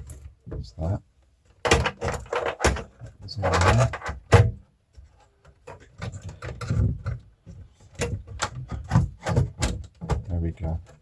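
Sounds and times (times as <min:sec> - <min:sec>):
clicks and knocks of parts: 0:01.4 - 0:11.0.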